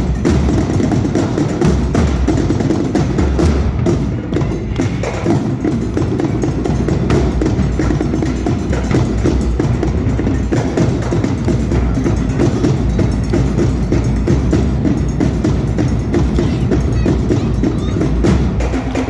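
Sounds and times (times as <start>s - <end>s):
drum line percussion cadence: 0.0s - 19.0s
heavy bass drum beat: 0.0s - 19.0s.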